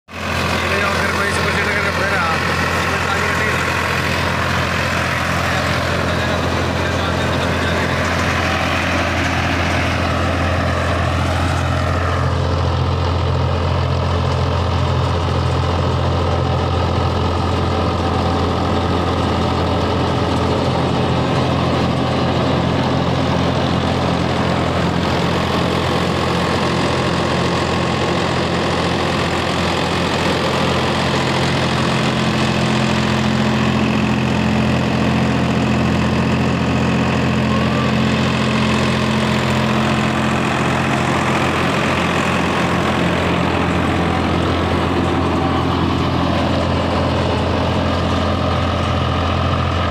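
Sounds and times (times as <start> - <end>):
tractor diesel engine under load: 0.0 - 49.9.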